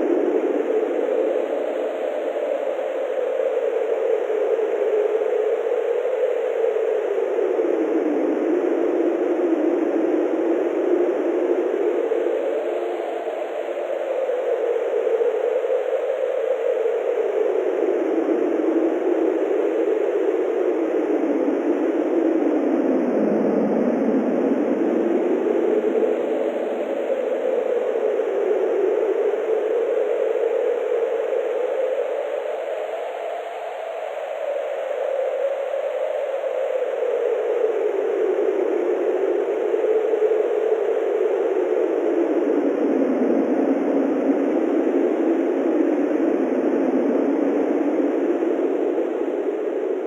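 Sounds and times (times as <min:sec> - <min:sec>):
synthesized howling wind: 0:00.0 - 0:50.0.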